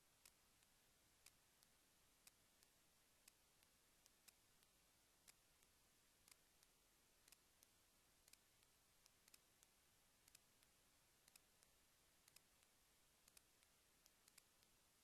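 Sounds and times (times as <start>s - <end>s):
faint sharp clicks: 0.0s - 15.0s.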